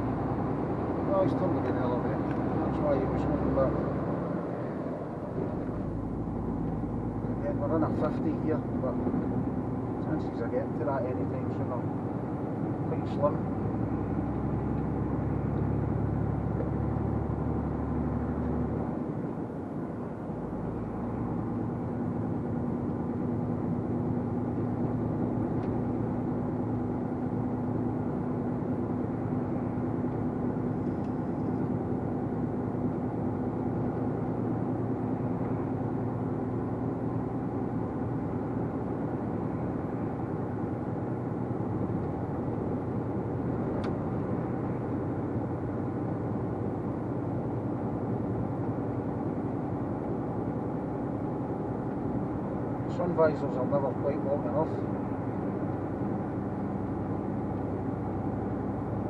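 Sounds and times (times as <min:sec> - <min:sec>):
truck engine and road noise: 0:00.0 - 0:59.0.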